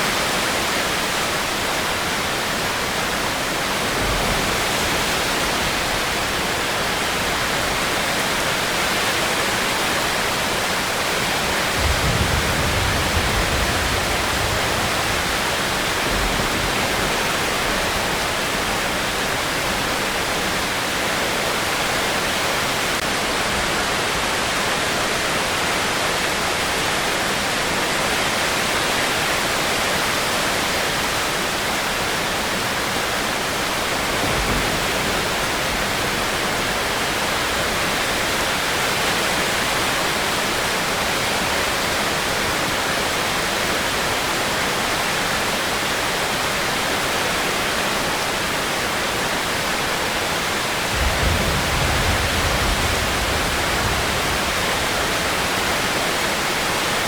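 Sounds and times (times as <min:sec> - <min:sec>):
heavy rain hissing: 0:00.0 - 0:25.8, 0:27.0 - 0:57.0.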